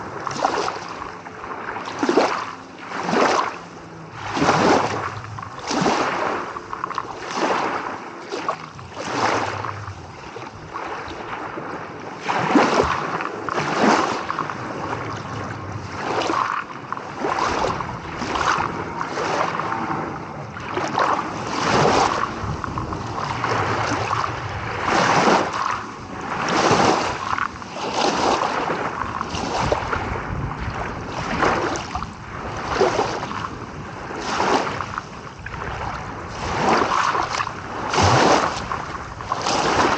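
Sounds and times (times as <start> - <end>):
waves splashing on shore: 0.0 - 39.9.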